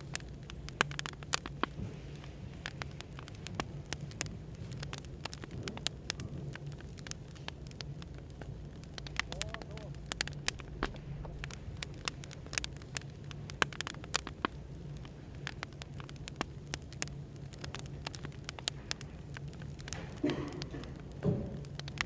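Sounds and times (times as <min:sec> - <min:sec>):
cafe background hum: 0:00.0 - 0:22.0
wood fire crackling and popping: 0:00.0 - 0:22.0.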